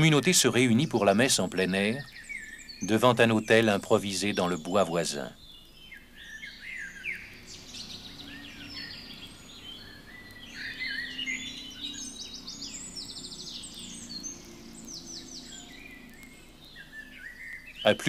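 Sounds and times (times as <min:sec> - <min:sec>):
songbirds singing and chirping: 0:00.0 - 0:18.0.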